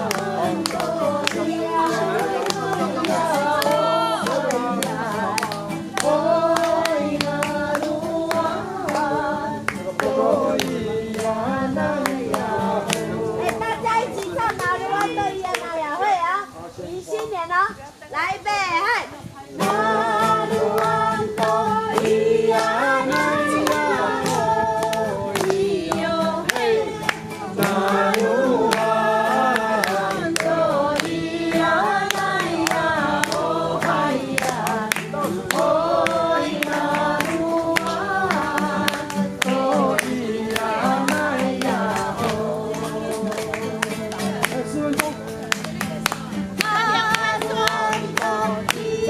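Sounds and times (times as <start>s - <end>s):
group of voices singing: 0.0s - 16.0s, 19.2s - 49.0s.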